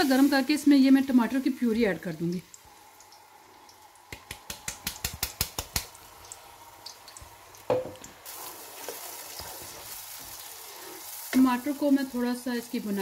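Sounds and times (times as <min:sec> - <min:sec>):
puree sizzling in oil: 0:00.0 - 0:13.0.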